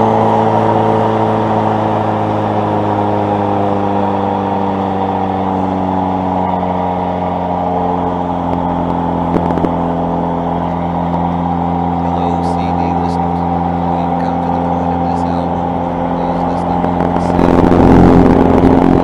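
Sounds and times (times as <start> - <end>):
propeller engine drone: 0.0 - 19.0.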